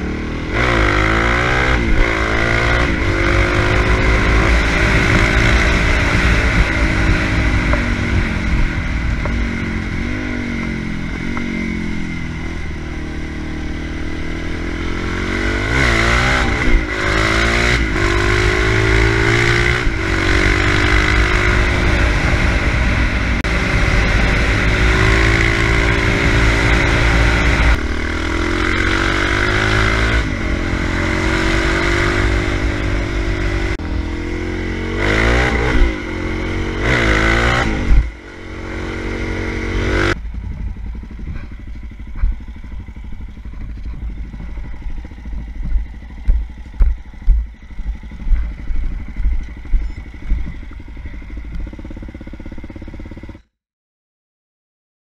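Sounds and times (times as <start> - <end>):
motorcycle engine revving: 0.0 - 53.5
wind rushing over camera: 1.6 - 53.4.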